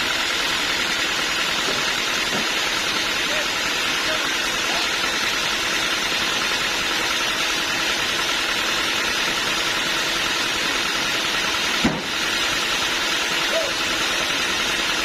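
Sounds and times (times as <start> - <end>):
machinery engine droning: 0.0 - 15.0.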